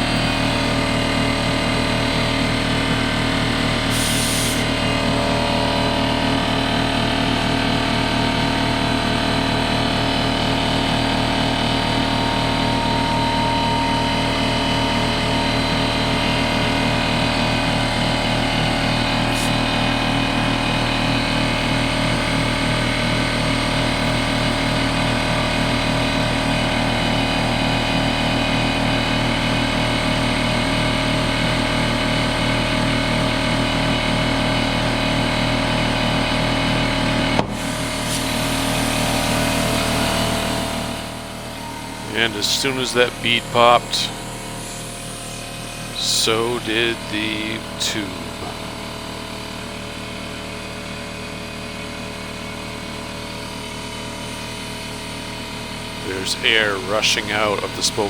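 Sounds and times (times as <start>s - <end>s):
air compressor pulsing: 0.0s - 46.8s, 47.5s - 58.0s.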